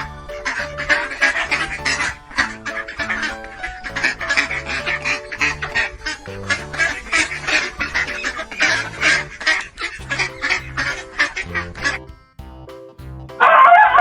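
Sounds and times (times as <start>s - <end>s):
background music with bass line: 0.0s - 9.4s, 10.0s - 14.0s
ducks quacking: 0.0s - 12.1s.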